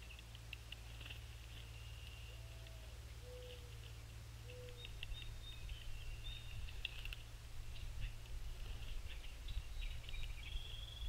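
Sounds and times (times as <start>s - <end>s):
faint low bird notes: 0.0s - 11.0s
songbirds chipping and whistling: 0.0s - 11.0s
steady low hum: 0.0s - 11.0s.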